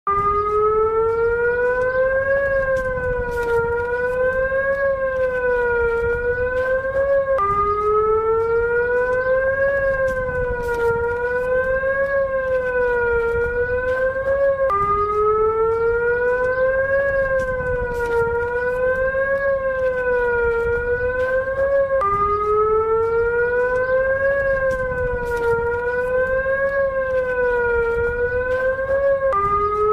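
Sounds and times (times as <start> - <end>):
warning siren wavering: 0.0 - 29.9.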